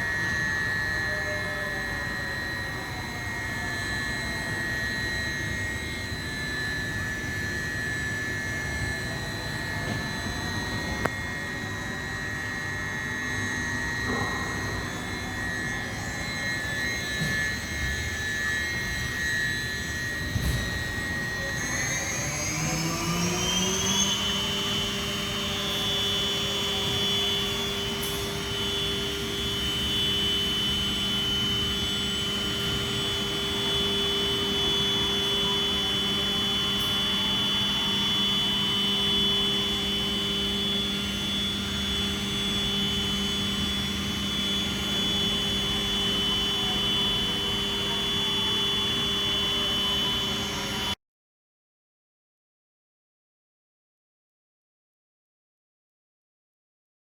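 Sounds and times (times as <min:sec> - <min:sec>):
machining centre whine: 0:00.0 - 0:51.0.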